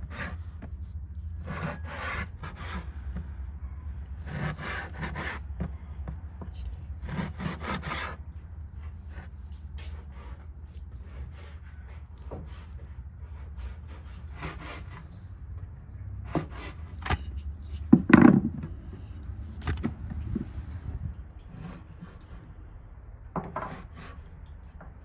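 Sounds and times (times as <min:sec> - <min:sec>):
scraping on wood: 0:00.0 - 0:03.4, 0:04.1 - 0:08.2, 0:08.8 - 0:15.2, 0:16.2 - 0:22.5, 0:23.4 - 0:24.5.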